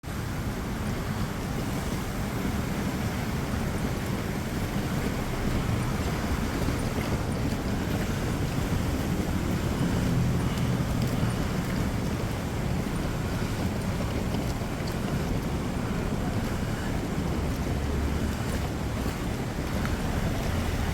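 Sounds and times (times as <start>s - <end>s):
floodwater washing: 0.0s - 20.9s
vehicle engines running: 0.0s - 20.9s.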